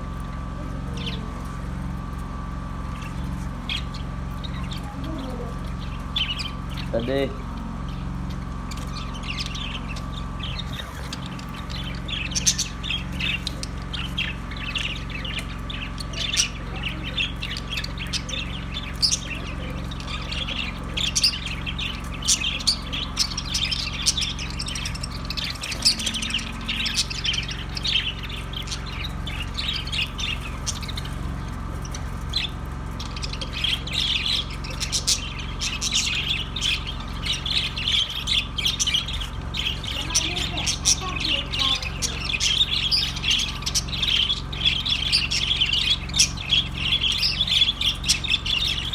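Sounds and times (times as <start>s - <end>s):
steady low hum: 0.0s - 48.9s
budgerigars chattering: 0.9s - 1.6s, 2.8s - 48.9s.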